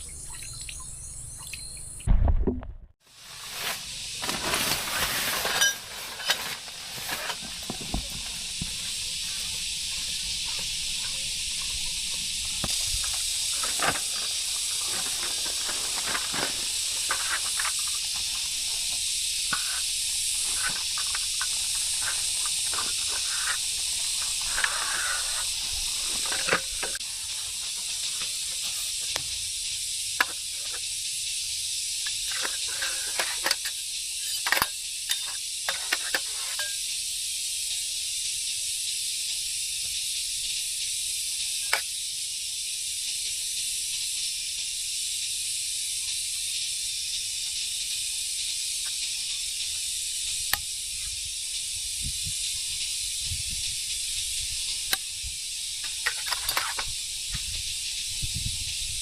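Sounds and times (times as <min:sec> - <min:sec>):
high-pitched hiss: 0:03.0 - 0:59.0.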